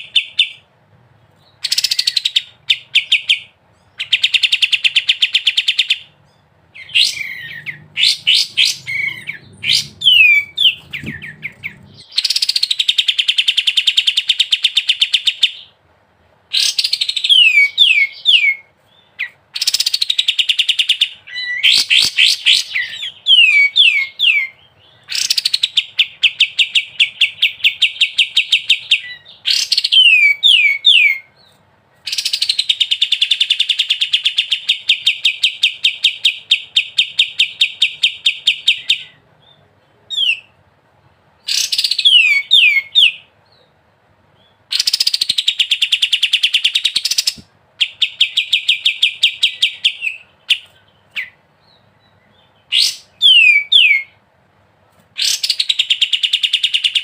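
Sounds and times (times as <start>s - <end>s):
songbird trilling: 1.5s - 15.7s, 16.5s - 31.4s, 32.1s - 40.6s, 41.4s - 43.3s, 44.7s - 54.2s.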